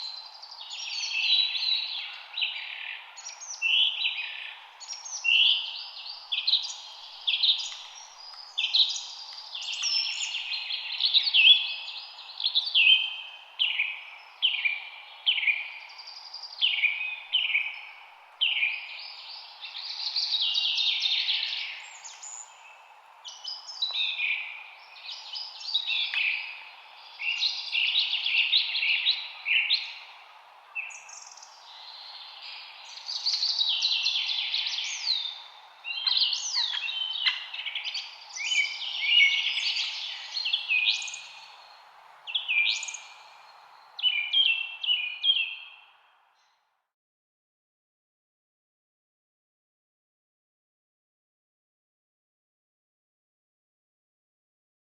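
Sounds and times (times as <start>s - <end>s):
low background hiss: 0.0s - 46.3s
songbirds chirping and warbling: 0.0s - 46.7s.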